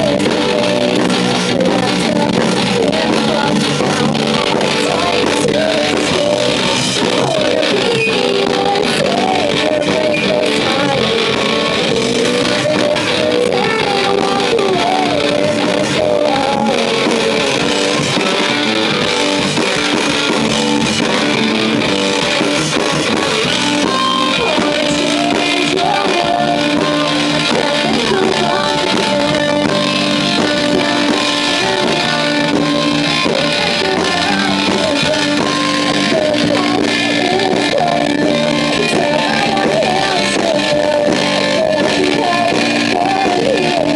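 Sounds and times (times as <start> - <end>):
woman singing: 0.0 - 18.4, 22.2 - 43.9
rock band playing live: 0.0 - 43.9.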